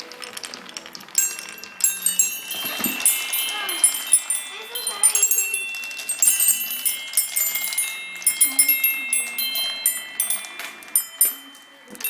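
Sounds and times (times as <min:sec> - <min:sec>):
marbles rattling through wooden run: 0:00.0 - 0:12.0
chime-like tones of sound blocks: 0:01.0 - 0:12.0.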